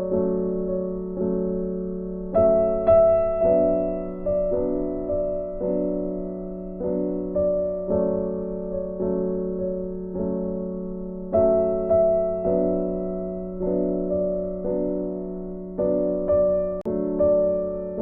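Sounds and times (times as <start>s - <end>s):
soft piano chords: 0.0s - 18.0s.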